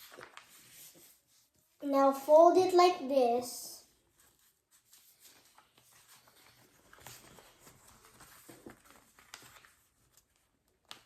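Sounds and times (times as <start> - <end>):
paper rustling and ticking while folded: 0.0 - 2.9, 3.9 - 11.0.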